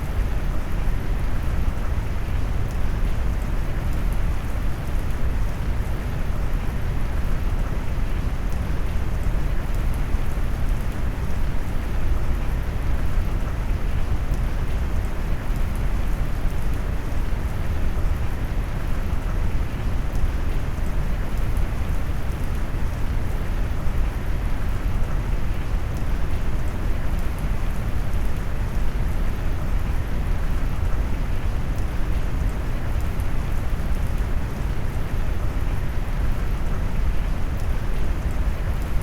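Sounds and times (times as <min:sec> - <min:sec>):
faint raindrop ticks: 0:00.0 - 0:39.0
rain with brown noise: 0:00.0 - 0:39.0.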